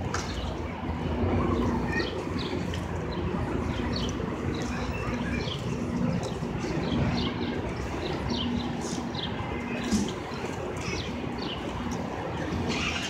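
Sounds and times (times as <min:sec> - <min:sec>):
vehicle engines idling: 0:00.0 - 0:13.0
birds chirping: 0:01.5 - 0:13.0.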